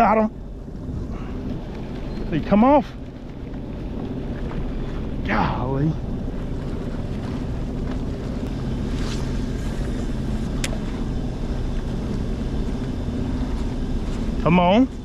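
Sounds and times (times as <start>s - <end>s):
jet ski engine idling: 0.0s - 15.0s.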